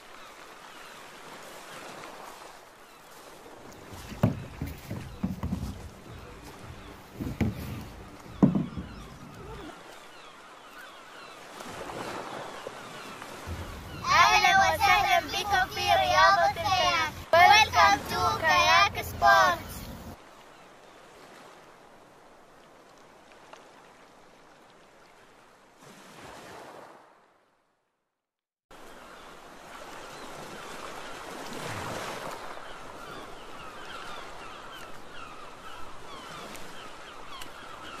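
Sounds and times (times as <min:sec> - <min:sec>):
rushing water: 0:00.0 - 0:27.6, 0:28.7 - 0:38.0.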